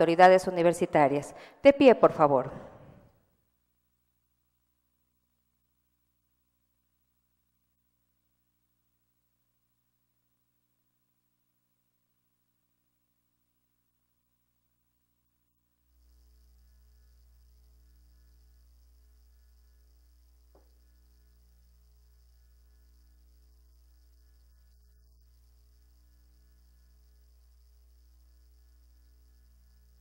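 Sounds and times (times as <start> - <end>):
electrical mains hum: 3.8 - 30.0.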